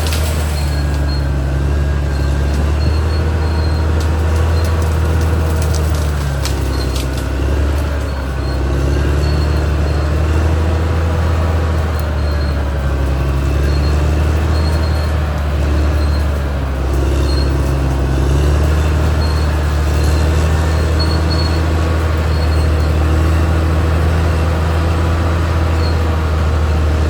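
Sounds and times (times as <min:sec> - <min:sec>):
short high-pitched squeaks: 0:00.0 - 0:10.6, 0:12.0 - 0:23.7
bulldozer diesel engine running: 0:00.0 - 0:27.0.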